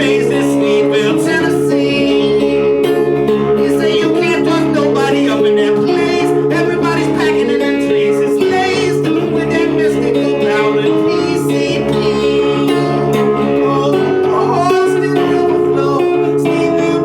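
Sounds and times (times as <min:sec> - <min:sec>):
guitar droning low notes: 0:00.0 - 0:17.0
man singing: 0:00.0 - 0:17.0.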